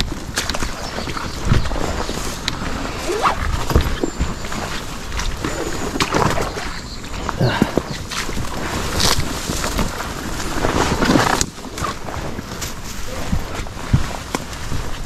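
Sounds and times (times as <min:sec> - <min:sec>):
footsteps through wet grass: 0:00.0 - 0:15.0.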